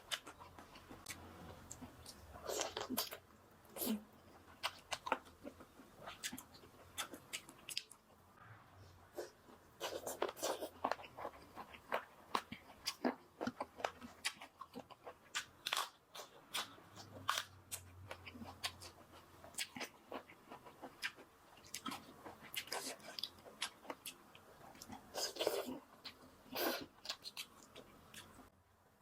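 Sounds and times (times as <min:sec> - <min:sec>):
chewing crunchy food: 0:00.0 - 0:08.1, 0:09.1 - 0:28.5.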